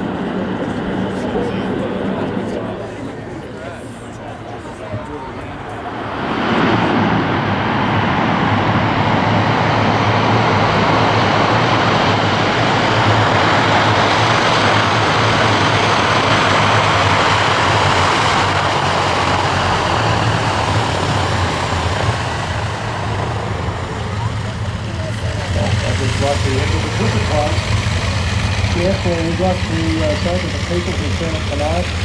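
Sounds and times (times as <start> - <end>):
piston engines droning: 0.0 - 32.0.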